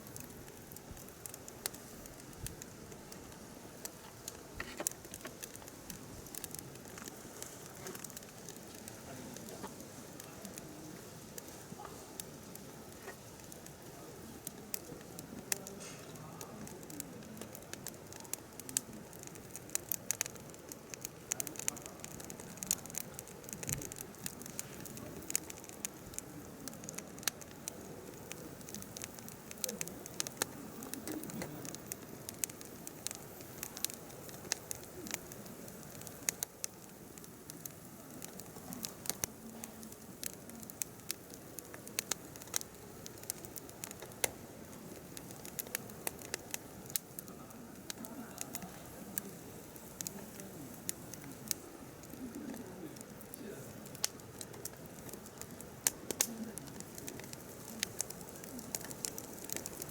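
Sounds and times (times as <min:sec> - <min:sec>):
firewood crackling and popping: 0:00.0 - 0:59.9
low rustle of flames: 0:00.0 - 0:59.9.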